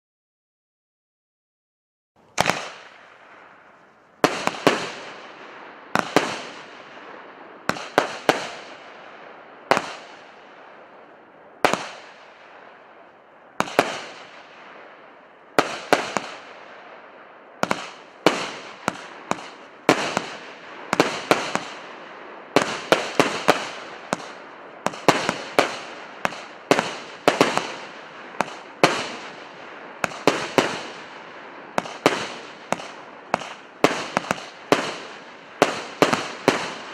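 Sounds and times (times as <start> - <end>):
crackling hiss: 2.2 - 36.9
firework bangs: 2.2 - 36.9.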